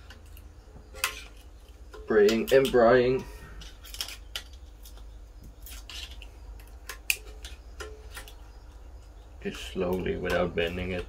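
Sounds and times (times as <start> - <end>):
metallic clicks and scrapes: 0.0 - 11.0.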